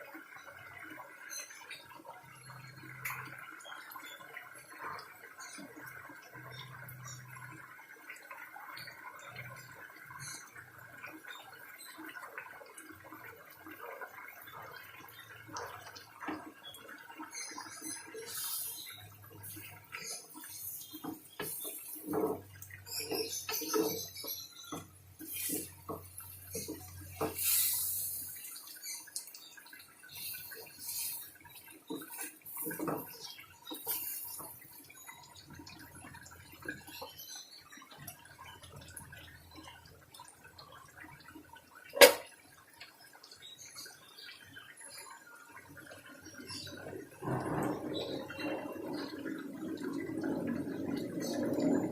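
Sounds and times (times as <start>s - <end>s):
curry simmering with pops: 0.0s - 51.9s
water splashing and dripping: 0.0s - 51.9s.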